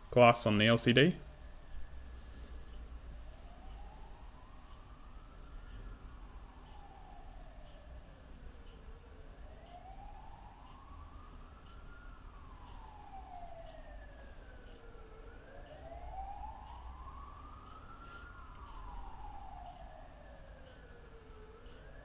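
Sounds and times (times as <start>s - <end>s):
emergency siren wailing: 0.0s - 22.0s
second siren sweeping higher: 0.0s - 22.0s.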